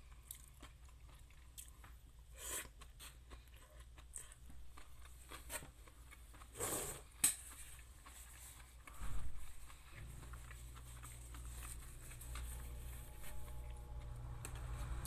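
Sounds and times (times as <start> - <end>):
chewing noodles: 0.0 - 14.2.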